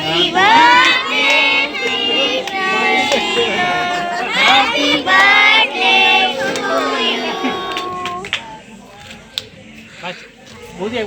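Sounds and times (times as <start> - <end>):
people singing and calling out: 0.0 - 11.0.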